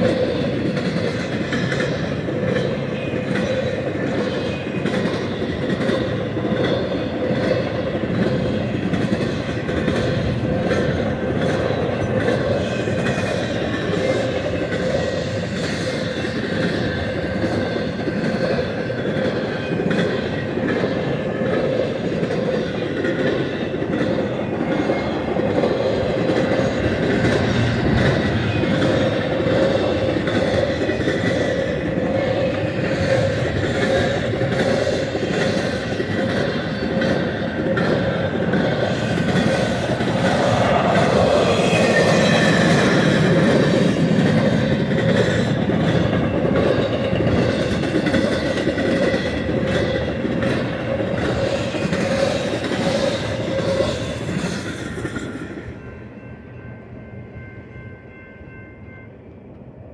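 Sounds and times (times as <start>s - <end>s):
steel wheels clattering on rail: 0.0s - 56.0s
freight train rolling past: 0.0s - 59.9s.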